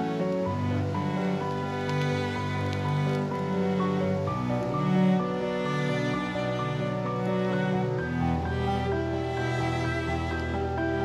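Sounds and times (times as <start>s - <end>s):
music with slow held notes: 0.0s - 11.0s.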